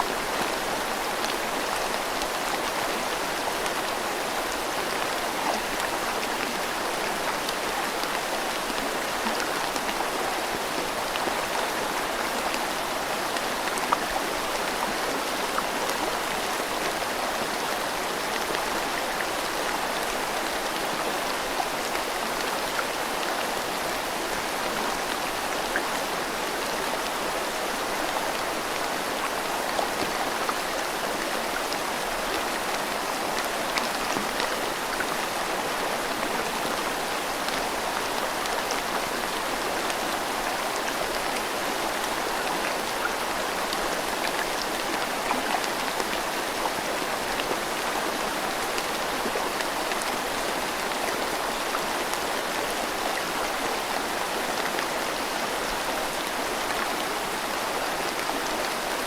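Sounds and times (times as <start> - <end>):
river running: 0.0 - 59.0
steady rain falling: 0.0 - 59.0.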